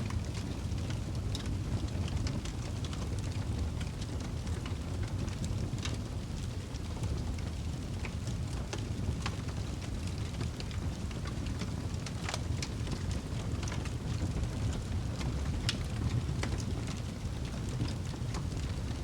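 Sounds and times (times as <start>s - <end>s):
wood fire crackles and pops: 0.0s - 19.0s
fire flames rushing: 0.1s - 19.0s.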